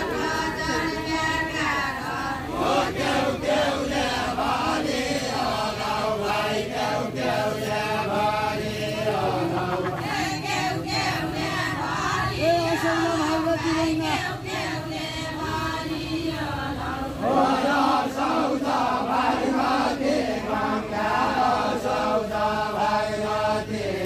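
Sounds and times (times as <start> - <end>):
men singing in unison: 0.0 - 24.0.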